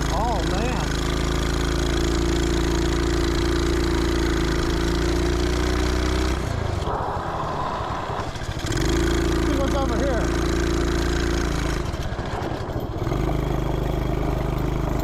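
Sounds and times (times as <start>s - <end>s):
single-cylinder engine running: 0.0s - 15.0s.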